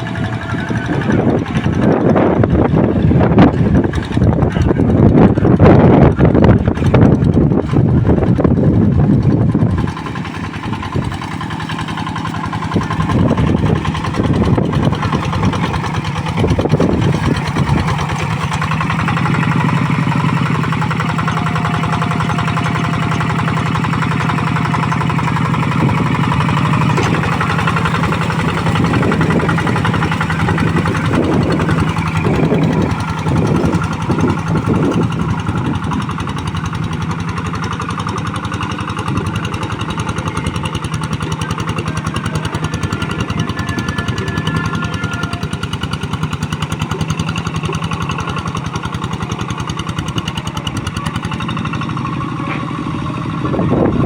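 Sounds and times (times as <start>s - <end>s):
diesel tractor engine knocking: 0.0s - 54.0s.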